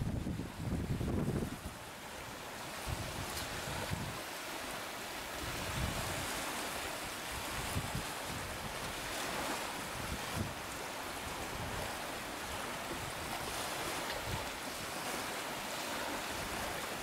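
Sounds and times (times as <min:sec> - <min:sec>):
wind gusting over microphone: 0:00.0 - 0:04.3, 0:05.3 - 0:17.0
choppy sea hissing: 0:00.0 - 0:17.0.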